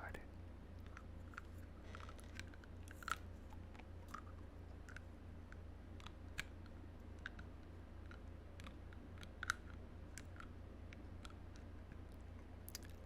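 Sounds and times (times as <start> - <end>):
teeth clicking on plastic toothbrush: 0.8 - 11.7.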